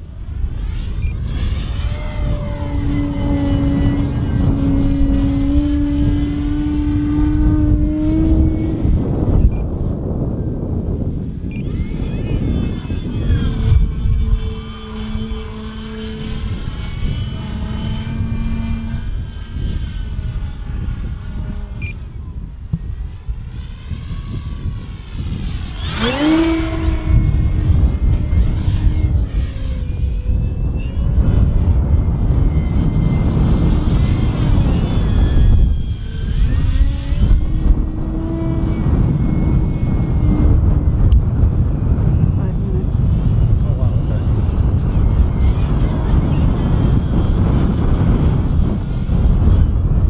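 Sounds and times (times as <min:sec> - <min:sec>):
model plane electric motor: 0:00.0 - 0:42.2, 0:43.0 - 0:50.0
wind rumbling on microphone: 0:00.0 - 0:50.0.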